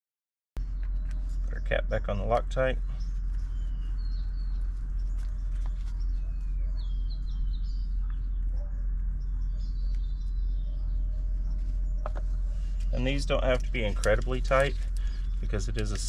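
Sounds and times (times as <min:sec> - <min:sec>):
birds chirping: 0:00.6 - 0:16.0
steady low hum: 0:00.6 - 0:16.0.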